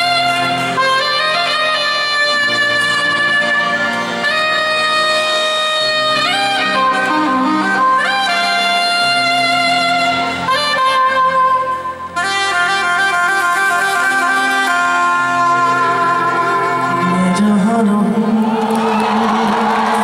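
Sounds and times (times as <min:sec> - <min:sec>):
harmonium playing held notes: 0:00.0 - 0:18.4.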